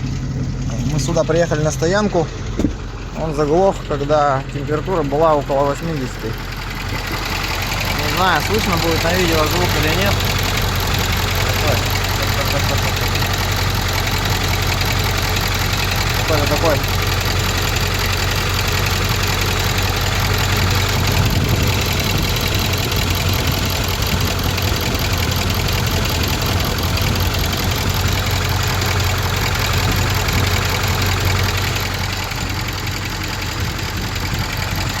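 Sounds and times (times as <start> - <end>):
diesel engine idling with rattle: 0.0 - 35.0.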